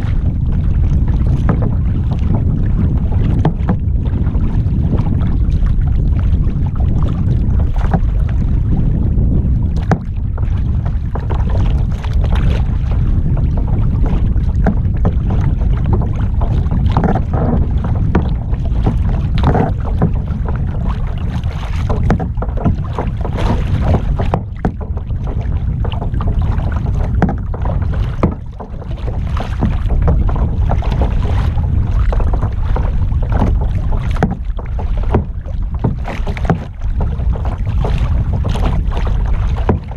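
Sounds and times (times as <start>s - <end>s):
kayak paddle strokes in water: 0.0s - 39.9s
wind rumbling on microphone: 0.0s - 39.9s.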